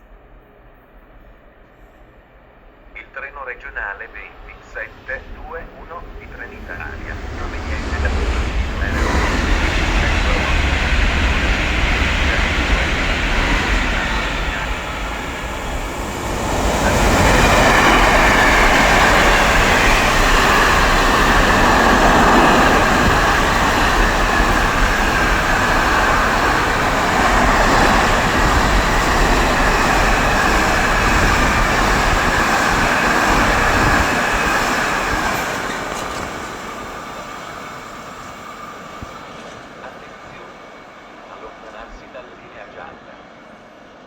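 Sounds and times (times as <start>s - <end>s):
train wheels rushing on rail: 0.0s - 44.0s
high ringing of rails: 6.2s - 44.0s.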